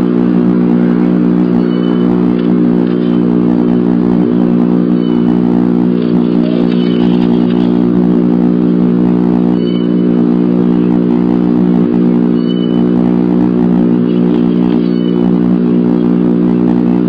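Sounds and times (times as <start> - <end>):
loud buzzing electrical hum: 0.0 - 17.0.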